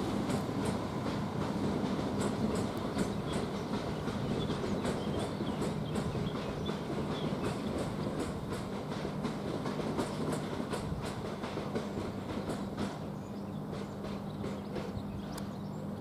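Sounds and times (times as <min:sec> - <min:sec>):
electric train hum: 0:00.0 - 0:16.0
train wheels clickety-clack: 0:00.0 - 0:16.0.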